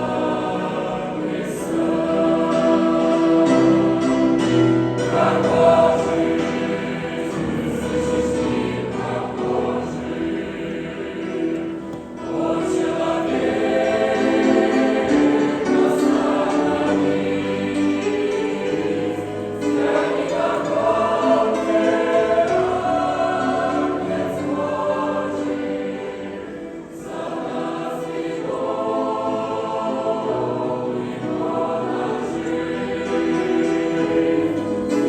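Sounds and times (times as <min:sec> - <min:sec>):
choir singing sustained chords: 0:00.0 - 0:35.0.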